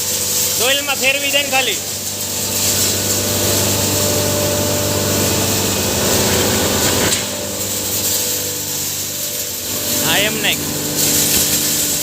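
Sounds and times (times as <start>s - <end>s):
hammer mill motor hum: 0.0s - 12.0s.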